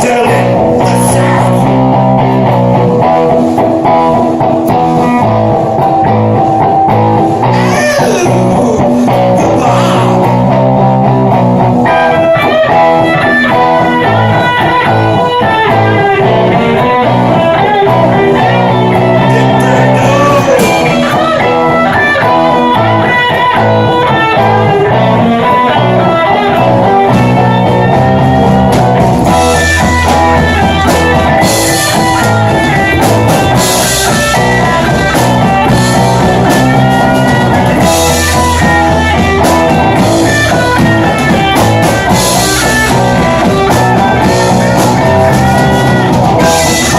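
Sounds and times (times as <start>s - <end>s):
drums and cymbals: 0.0s - 46.9s
electric guitar: 0.0s - 46.9s
live rock band playing: 0.0s - 46.9s.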